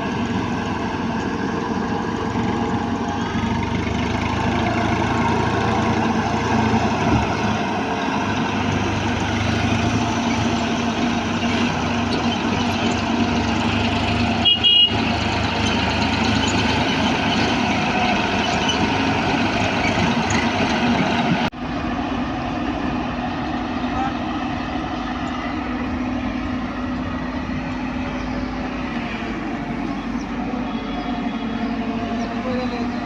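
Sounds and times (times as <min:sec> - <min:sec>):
heavy diesel machinery running: 0:00.0 - 0:33.0.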